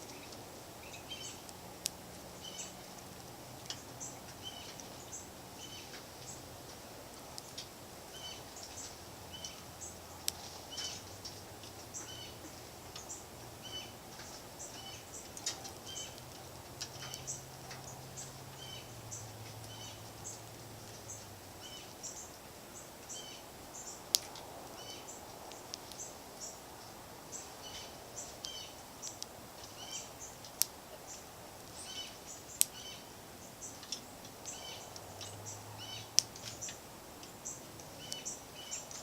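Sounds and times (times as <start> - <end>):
low background hum: 0.0 - 39.0
songbirds chirping: 0.0 - 39.0.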